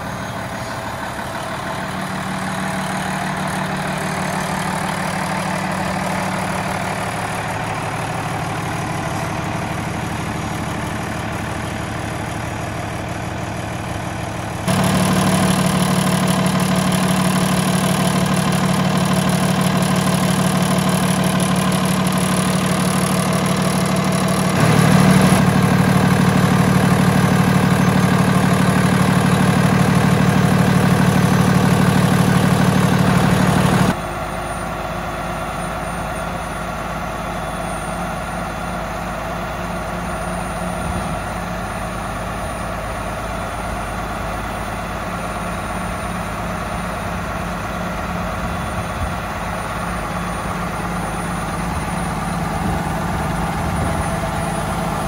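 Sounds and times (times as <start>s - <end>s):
diesel truck idling: 0.0s - 55.0s.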